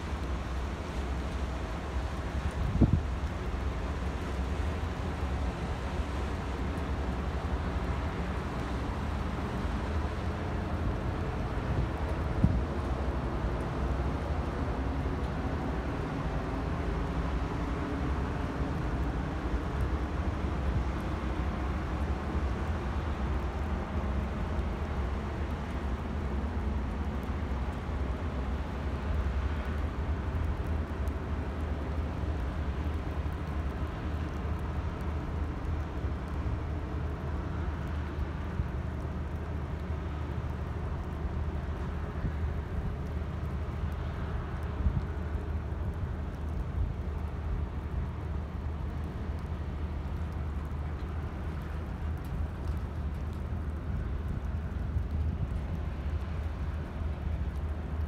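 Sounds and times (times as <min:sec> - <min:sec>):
boat engine rumble: 0:00.0 - 0:58.0
wind and water hiss: 0:00.0 - 0:58.0.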